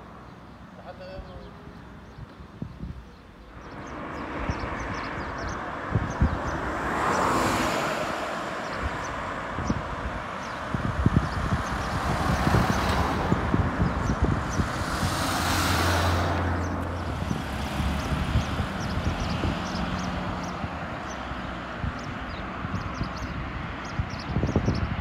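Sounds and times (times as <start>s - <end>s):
small birds chirping: 0.0s - 25.0s
wind buffeting microphone: 1.2s - 25.0s
cars passing: 3.2s - 25.0s
vehicle engine hum passing: 3.6s - 23.9s.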